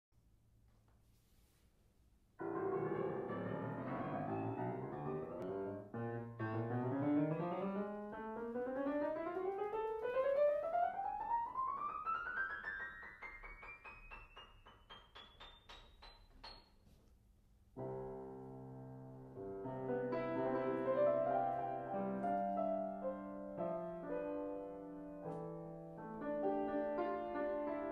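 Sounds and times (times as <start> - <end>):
grand piano playing: 2.4 - 16.6, 17.8 - 27.9.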